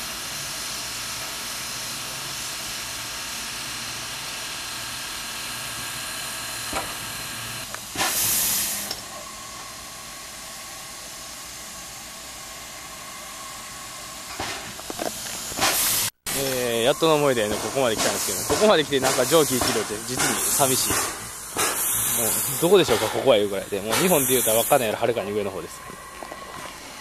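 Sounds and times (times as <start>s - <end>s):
burst of steam: 0.0s - 27.0s
steam locomotive hissing: 0.0s - 27.0s.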